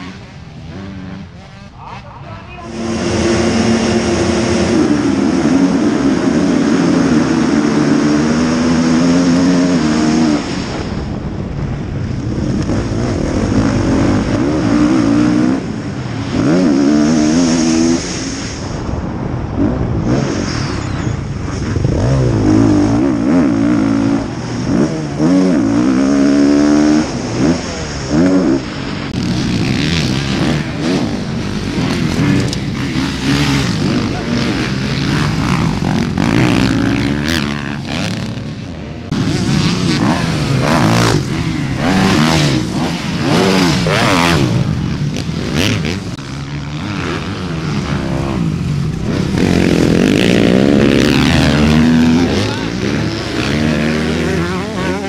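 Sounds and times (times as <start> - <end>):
motocross engines revving: 0.0 - 55.0
motorbike engine accelerating: 0.0 - 55.0
motorbikes passing: 0.0 - 55.0.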